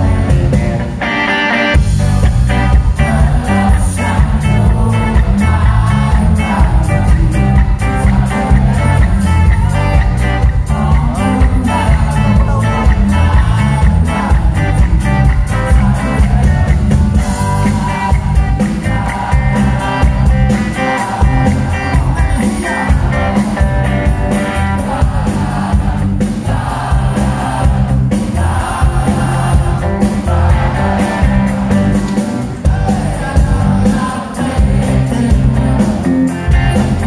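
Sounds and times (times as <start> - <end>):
drums: 0.0 - 37.0
electric guitar: 0.0 - 37.0
man singing: 2.5 - 37.0.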